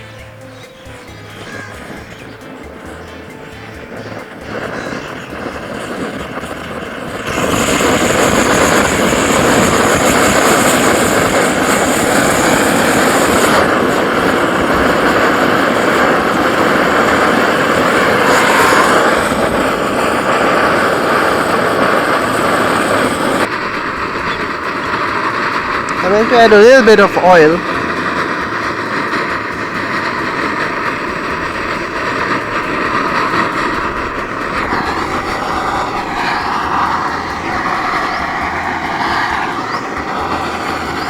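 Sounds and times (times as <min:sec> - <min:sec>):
gas stove burner rushing: 0:00.0 - 0:41.0.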